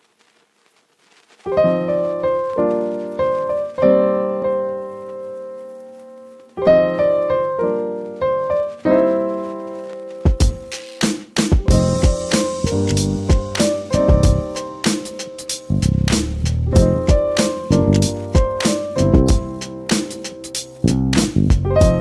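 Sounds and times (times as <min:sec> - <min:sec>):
slow piano chords: 0:01.5 - 0:10.8, 0:11.5 - 0:22.0.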